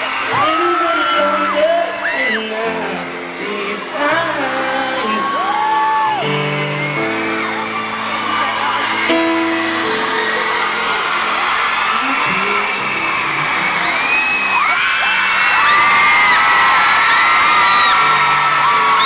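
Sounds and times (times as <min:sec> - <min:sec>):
audience screaming and whooping: 0:00.0 - 0:19.0
live concert music: 0:00.0 - 0:19.0.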